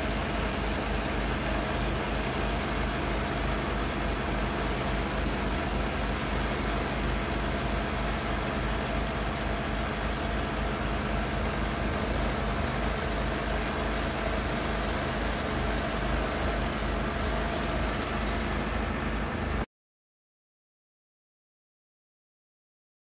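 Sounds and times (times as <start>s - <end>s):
cutter wheel grinding wood: 0.0s - 19.6s
gas engine running: 0.0s - 19.6s.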